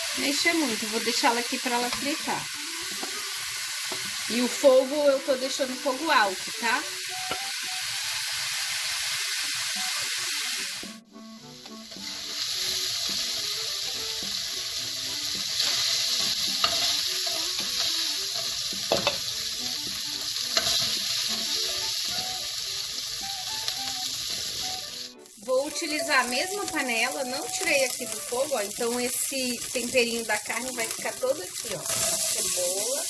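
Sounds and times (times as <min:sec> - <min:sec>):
meat sizzling in a hot pan: 0:00.0 - 0:33.0.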